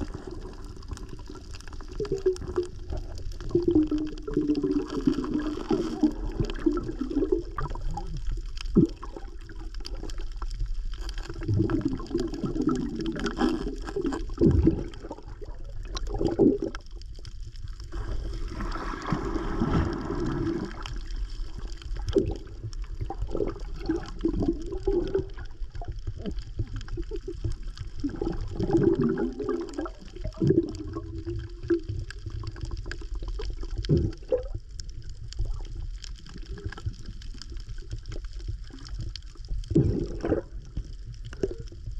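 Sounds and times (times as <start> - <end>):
underwater gurgling and bubbling: 0.0 - 41.9.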